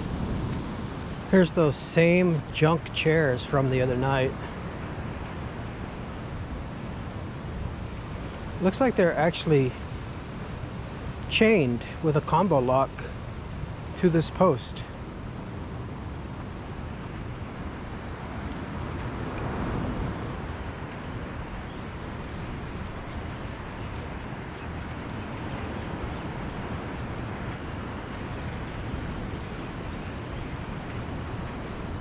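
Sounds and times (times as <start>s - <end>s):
wind on microphone: 0.0s - 8.9s, 14.9s - 32.0s
distant traffic: 0.0s - 32.0s
surf: 0.0s - 32.0s.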